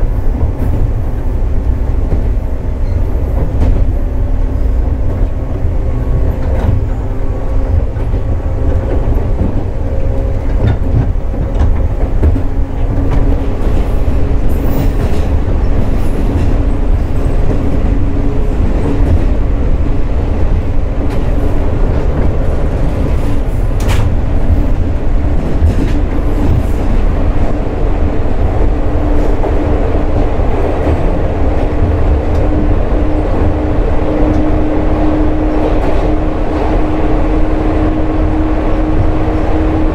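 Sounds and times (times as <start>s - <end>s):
rail joint clicks: 0.0s - 39.9s
train wheels rumbling on rail: 0.0s - 39.9s.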